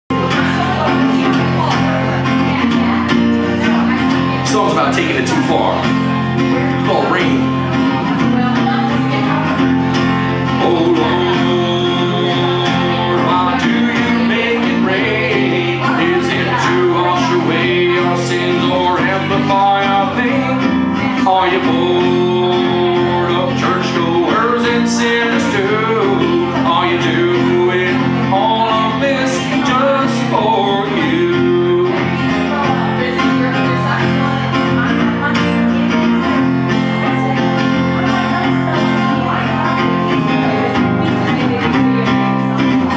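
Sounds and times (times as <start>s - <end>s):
acoustic guitar: 0.0s - 42.9s
man singing: 0.0s - 42.9s.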